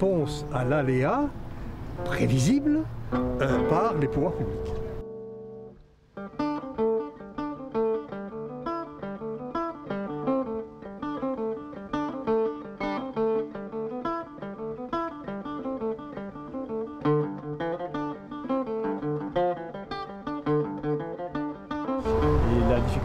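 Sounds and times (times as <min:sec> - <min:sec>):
plucked acoustic guitar: 0:00.0 - 0:23.0.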